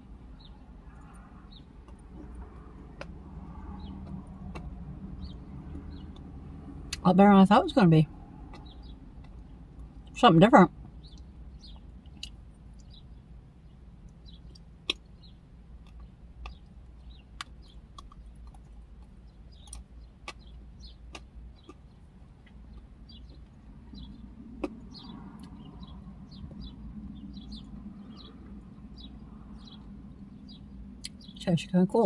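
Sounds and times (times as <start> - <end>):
faint birds chirping: 0.0 - 32.0.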